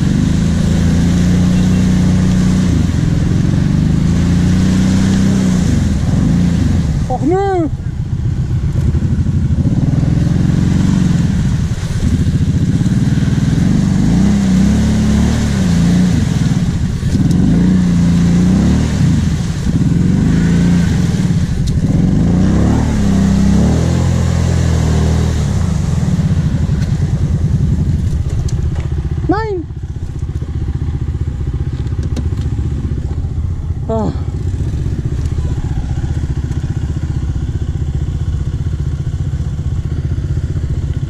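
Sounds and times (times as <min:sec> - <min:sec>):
muddy water splashing: 0:00.0 - 0:41.0
quad engine revving: 0:00.0 - 0:41.0.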